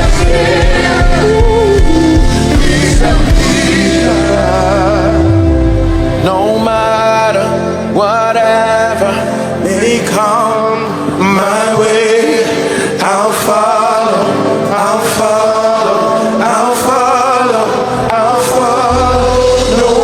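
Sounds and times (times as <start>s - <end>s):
gospel worship music: 0.0s - 20.0s
man singing long notes: 0.0s - 20.0s.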